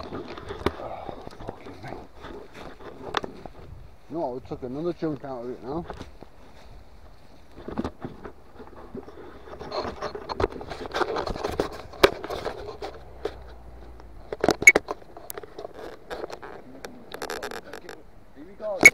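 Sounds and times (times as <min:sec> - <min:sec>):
twigs and leaves rustling and snapping: 0:00.0 - 0:03.8, 0:04.8 - 0:18.0.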